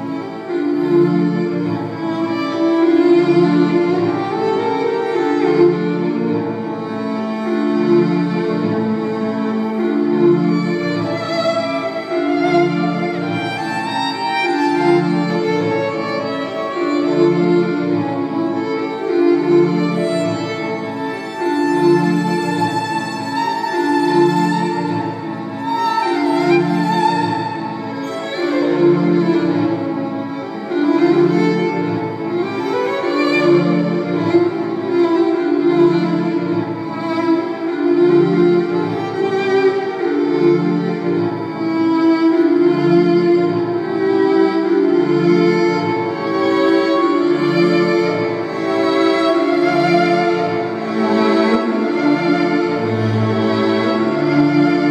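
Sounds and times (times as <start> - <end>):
layered violin music: 0.0 - 54.9.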